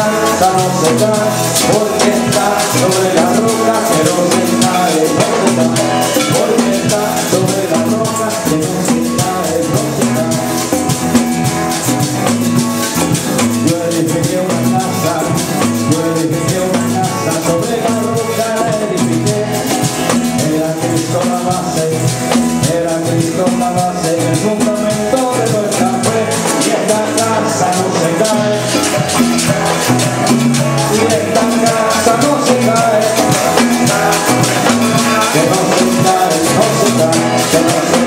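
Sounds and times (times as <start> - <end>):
congas: 0.0 - 38.0
live band latin rhythm: 0.0 - 38.0
maracas: 0.0 - 38.0.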